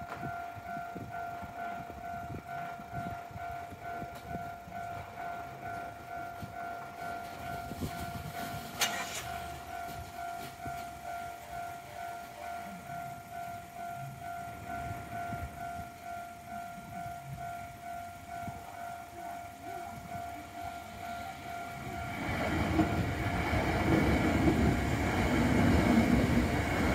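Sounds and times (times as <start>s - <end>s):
level crossing bell dinging: 0.0s - 23.2s.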